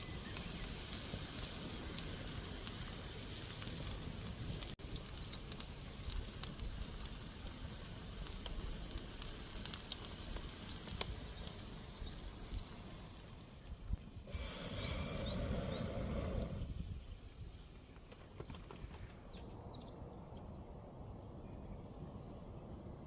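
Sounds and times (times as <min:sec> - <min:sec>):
small birds chirping: 0:00.0 - 0:02.5, 0:03.7 - 0:06.8, 0:09.3 - 0:13.2, 0:13.9 - 0:23.0
campfire crackling: 0:00.0 - 0:23.0.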